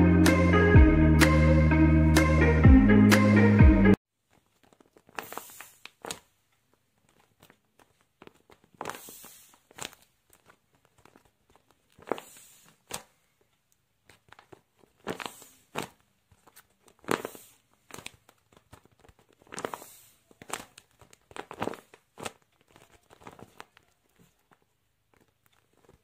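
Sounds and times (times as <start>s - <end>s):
paper toy crinkling: 4.1s - 26.0s.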